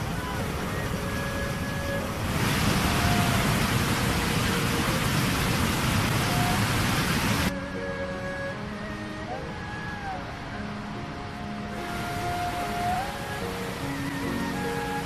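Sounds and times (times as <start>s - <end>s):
distant falling water: 0.0s - 15.0s
loud rush of rapids: 0.0s - 15.0s.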